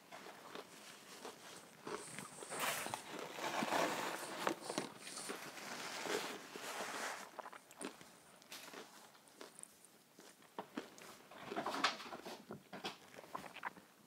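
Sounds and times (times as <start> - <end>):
crunchy chewing: 0.0 - 13.8.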